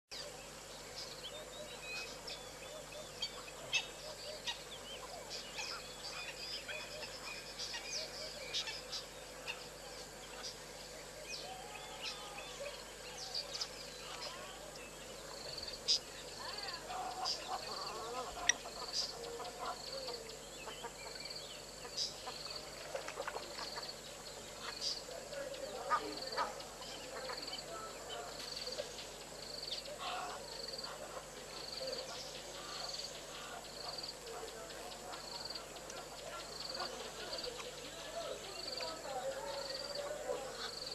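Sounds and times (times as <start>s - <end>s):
chorus of birds calling: 0.1s - 40.9s
faint steady hum: 0.1s - 40.9s.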